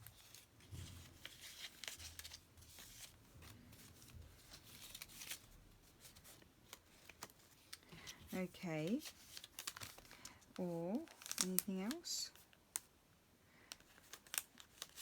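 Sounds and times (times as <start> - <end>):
paper rustling: 0.0 - 12.5, 13.7 - 15.0.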